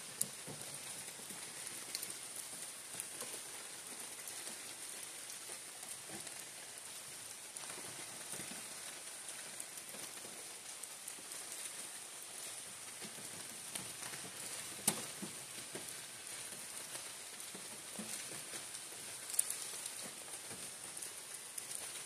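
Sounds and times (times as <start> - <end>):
rain through forest canopy: 0.0 - 22.0.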